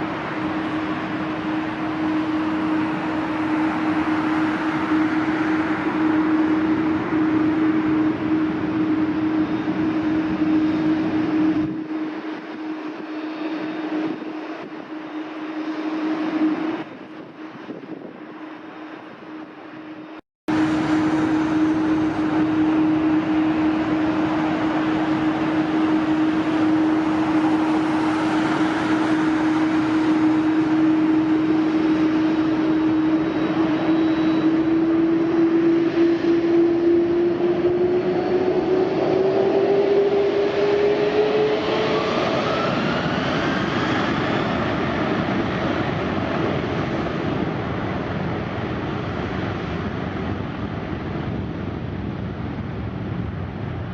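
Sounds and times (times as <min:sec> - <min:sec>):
jet airliner engines whining: 0:00.0 - 0:53.9.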